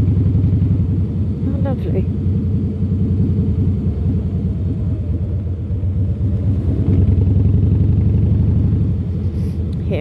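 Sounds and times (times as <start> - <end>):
motorcycle engine exhaust rumble: 0.0 - 10.0.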